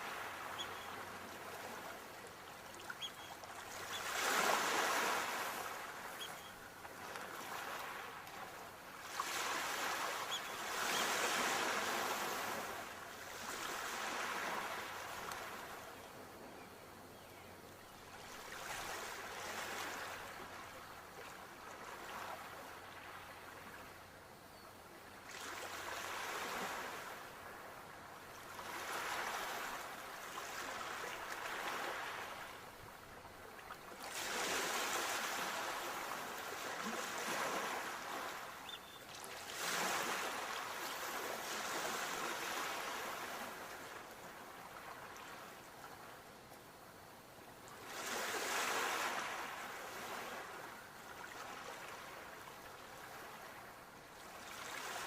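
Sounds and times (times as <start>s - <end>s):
sea waves breaking on shore: 0.0s - 16.0s, 18.2s - 23.8s, 25.2s - 27.8s, 28.4s - 46.1s, 47.7s - 55.0s.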